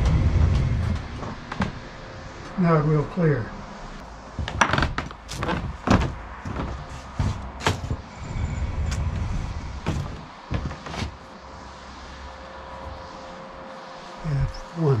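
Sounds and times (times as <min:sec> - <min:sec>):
steady rolling rumble: 0:00.0 - 0:15.0.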